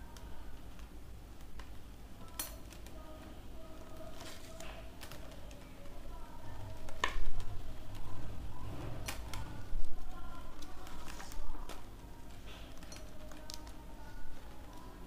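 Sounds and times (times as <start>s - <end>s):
plastic strips clicking: 0.0s - 8.2s, 9.0s - 15.0s
plastic strips rubbing: 0.0s - 15.0s.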